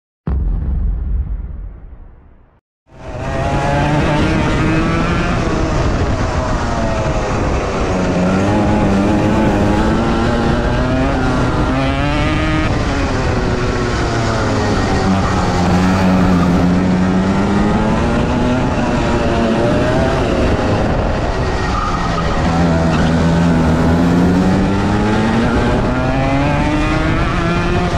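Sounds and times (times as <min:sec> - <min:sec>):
kart engine revving: 0:03.0 - 0:27.9.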